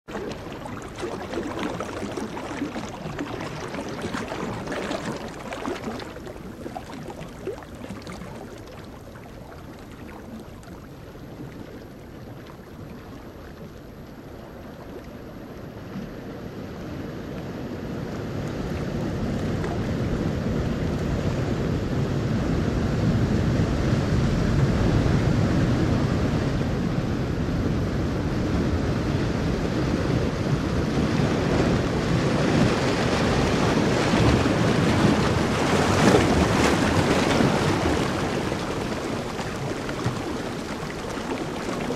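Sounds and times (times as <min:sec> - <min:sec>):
waves washing on shore: 0:00.0 - 0:41.9
wind: 0:00.0 - 0:41.9.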